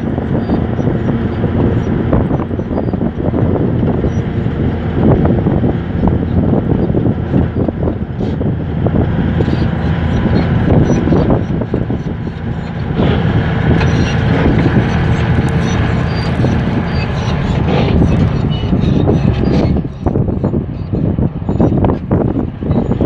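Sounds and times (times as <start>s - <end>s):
bulldozer diesel engine running: 0.0s - 23.0s
bulldozer tracks clanking: 0.0s - 23.0s.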